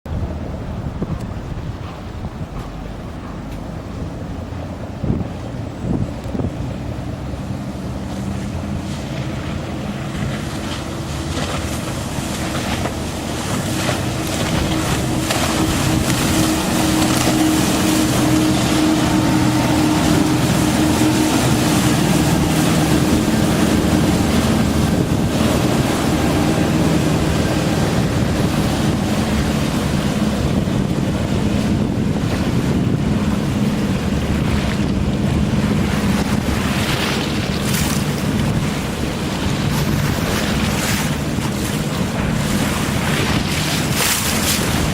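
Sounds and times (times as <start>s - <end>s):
wind on microphone: 0.0s - 44.9s
boat engines droning: 0.1s - 44.9s
water rushing from hull wash: 0.1s - 44.9s.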